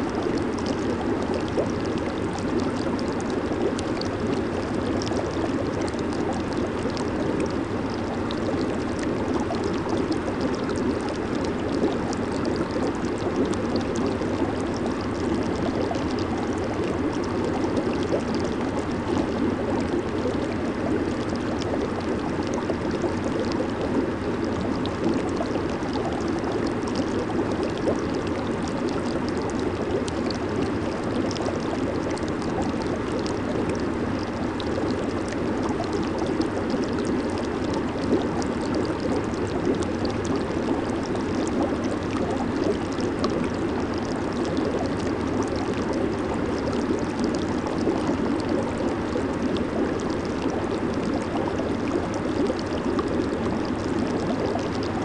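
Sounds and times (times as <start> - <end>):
jacuzzi water bubbling: 0.0 - 55.0.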